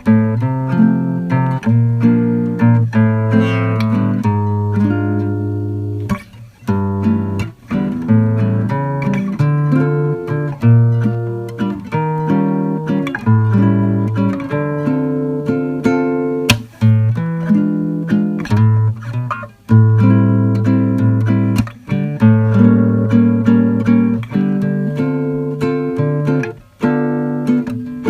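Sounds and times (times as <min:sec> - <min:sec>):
acoustic guitar melody: 0:00.0 - 0:28.0.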